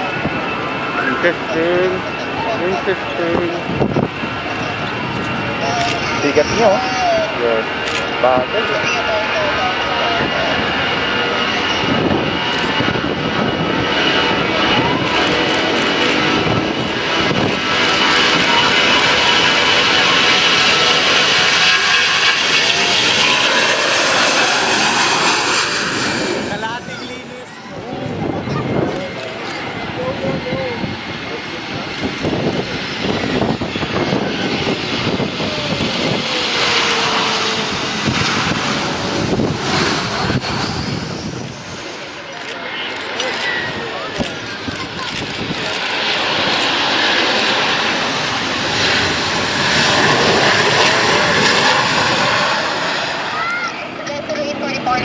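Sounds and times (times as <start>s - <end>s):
airliner engines roaring: 0.0s - 55.0s
high engine whine: 0.0s - 55.0s.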